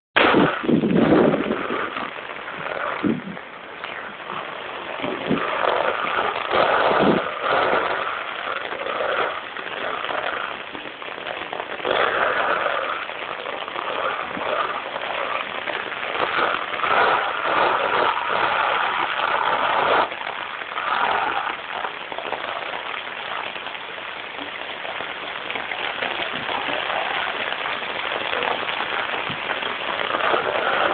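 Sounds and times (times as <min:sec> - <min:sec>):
heavy rain in strong wind: 0:00.2 - 0:30.9.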